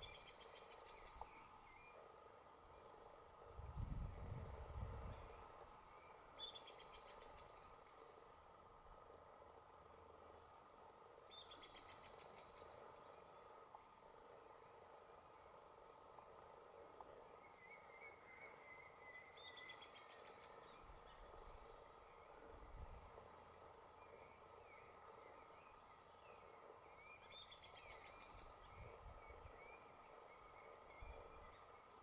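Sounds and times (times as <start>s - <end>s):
faint bird chirps: 0.0s - 3.2s, 4.0s - 8.5s, 11.2s - 16.5s, 17.1s - 32.0s.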